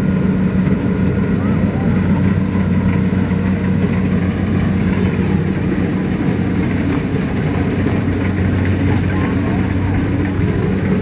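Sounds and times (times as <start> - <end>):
heavy machine engine humming: 0.0 - 11.0.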